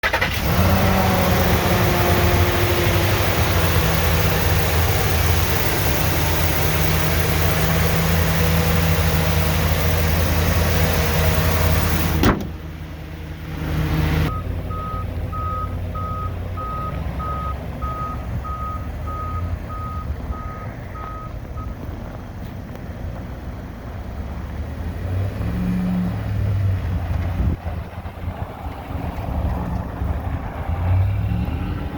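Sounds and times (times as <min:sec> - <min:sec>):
truck engine droning: 0:00.0 - 0:31.9.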